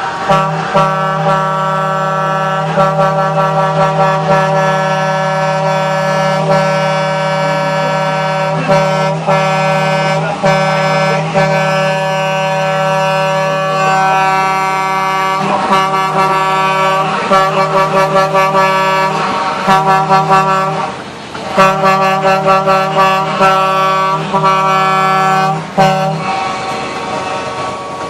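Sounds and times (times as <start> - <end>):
truck air horns blowing: 0.0 - 28.0.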